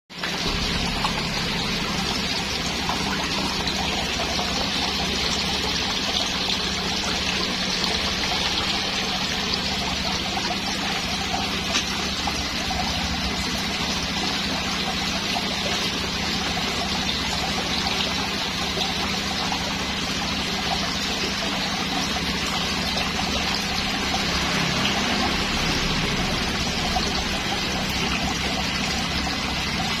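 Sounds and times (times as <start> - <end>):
waterfall splashing into pond: 0.1 - 30.0.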